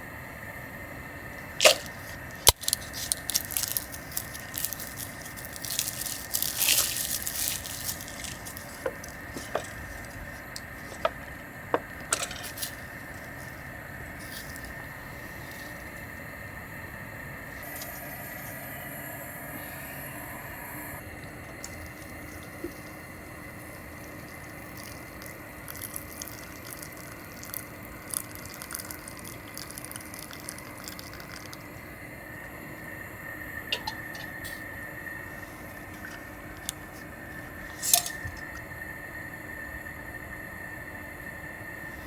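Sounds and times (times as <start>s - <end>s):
wood fire hissing and crackling: 0.0s - 42.0s.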